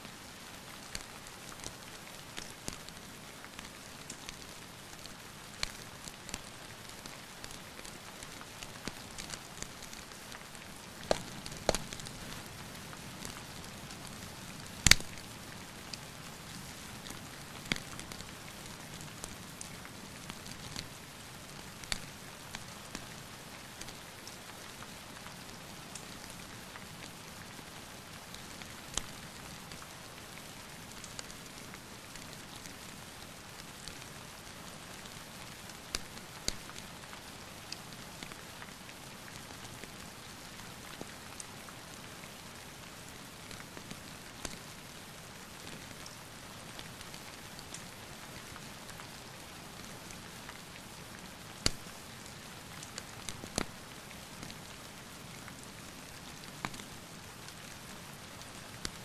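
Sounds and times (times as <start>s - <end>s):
steady rain: 0.0s - 59.0s
wood fire crackling: 0.8s - 30.4s, 31.0s - 42.0s, 42.6s - 54.8s, 55.4s - 57.8s.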